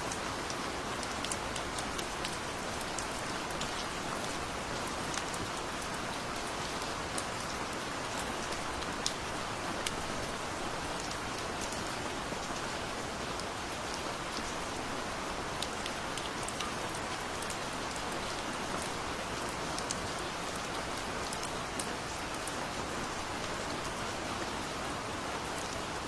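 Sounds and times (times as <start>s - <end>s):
gentle rainfall hiss: 0.0s - 26.0s.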